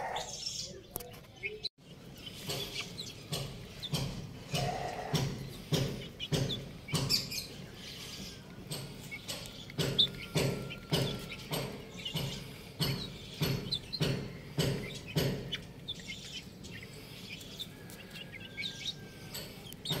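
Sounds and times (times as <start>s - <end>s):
hens pecking on concrete: 0.9s - 20.0s.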